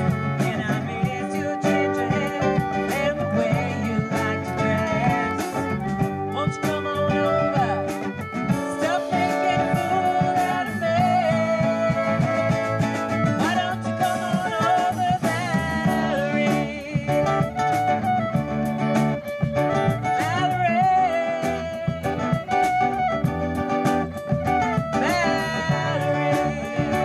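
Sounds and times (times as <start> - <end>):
strummed acoustic guitar: 0.0 - 27.0
wavering melody line: 0.0 - 27.0.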